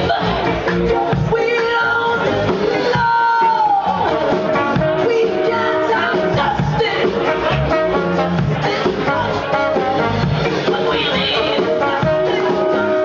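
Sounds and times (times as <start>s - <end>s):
drum kit: 0.0s - 13.0s
person singing: 0.0s - 13.0s
saxophone: 0.0s - 13.0s.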